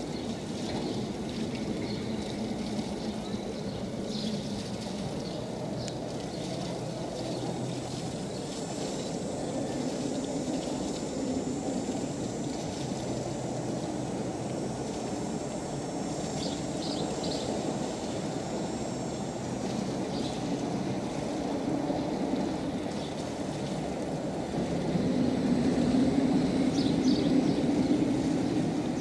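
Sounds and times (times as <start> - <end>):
boat engine hum and rumble: 0.0 - 29.0
faint high whine: 0.0 - 29.0.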